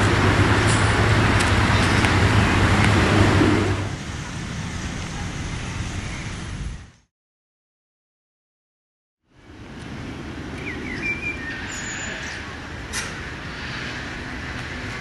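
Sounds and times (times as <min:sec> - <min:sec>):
road traffic hum: 0:00.0 - 0:07.1, 0:09.2 - 0:15.0.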